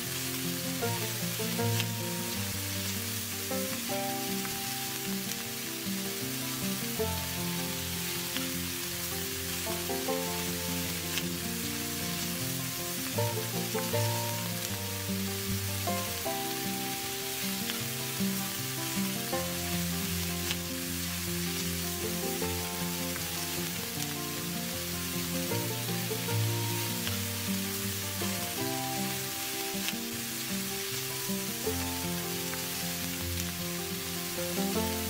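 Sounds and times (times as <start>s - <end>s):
food frying hiss: 0.0s - 35.0s
instrumental music: 0.0s - 35.0s.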